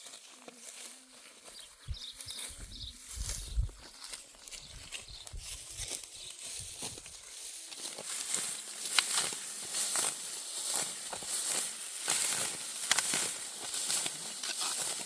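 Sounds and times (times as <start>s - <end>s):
dry stalks rustling and crackling: 0.0s - 15.0s.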